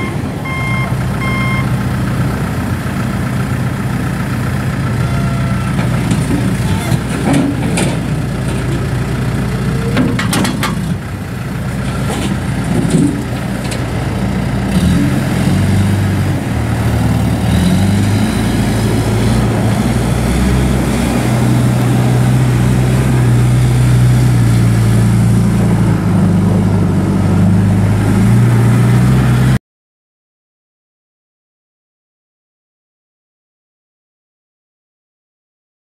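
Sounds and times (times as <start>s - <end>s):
backhoe diesel engine running: 0.0s - 29.6s.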